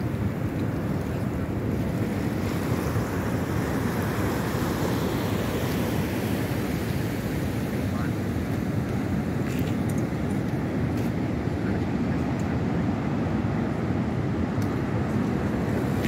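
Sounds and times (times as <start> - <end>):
ocean surf rushing: 0.0 - 16.0.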